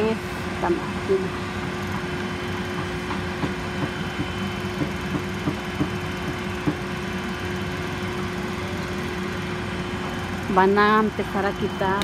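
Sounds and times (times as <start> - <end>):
boom lift engine hum: 0.0 - 12.0.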